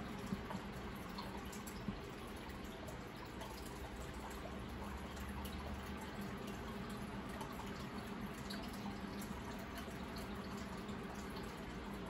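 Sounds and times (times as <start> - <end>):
aquarium water bubbling: 0.0 - 12.0
small drips and pops: 0.0 - 12.0
steady low hum: 0.0 - 12.0.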